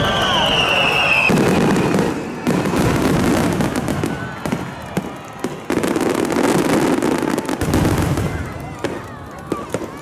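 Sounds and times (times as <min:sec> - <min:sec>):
fireworks crackling: 0:00.0 - 0:10.0
fireworks booming: 0:00.1 - 0:10.0.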